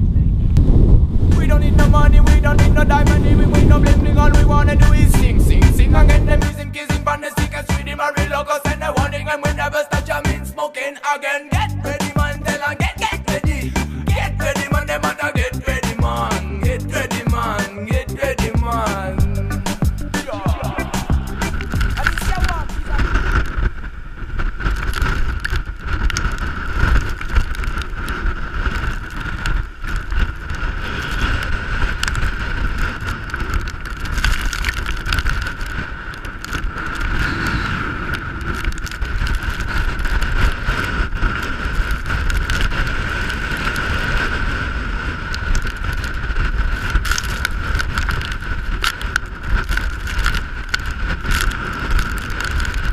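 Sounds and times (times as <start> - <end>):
wind buffeting microphone: 0.0 - 6.9, 16.6 - 52.9.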